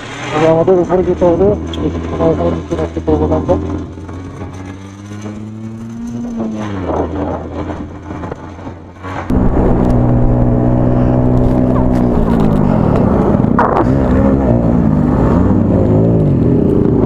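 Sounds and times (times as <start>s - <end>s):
motorcycle engine running: 0.5s - 17.0s.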